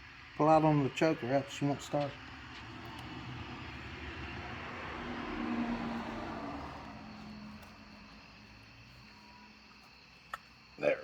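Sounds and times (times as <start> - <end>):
passing vehicle engine hum: 0.0 - 10.0.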